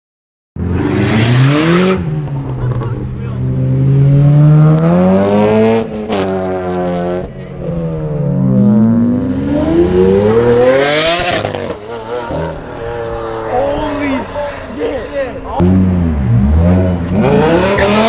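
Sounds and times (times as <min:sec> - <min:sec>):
car engines revving: 0:00.6 - 0:18.0.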